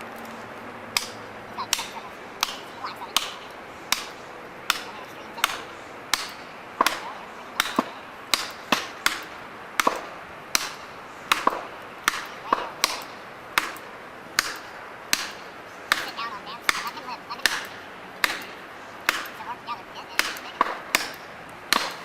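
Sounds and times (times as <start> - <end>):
chopping wood: 1.0 - 19.4, 20.2 - 22.0.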